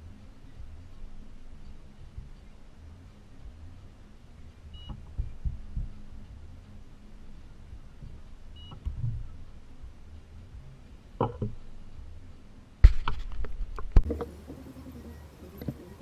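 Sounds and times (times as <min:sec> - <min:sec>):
low thuds: 0:00.0 - 0:16.0
steady low hum: 0:00.0 - 0:16.0.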